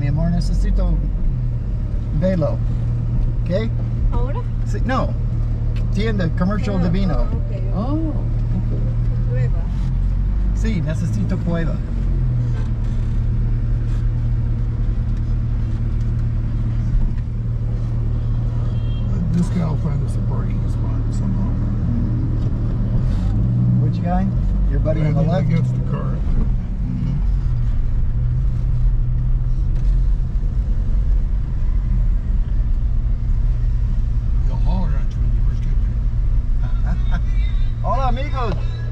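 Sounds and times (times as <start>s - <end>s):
car engine drone inside cabin: 0.0s - 38.9s
road noise: 0.0s - 38.9s.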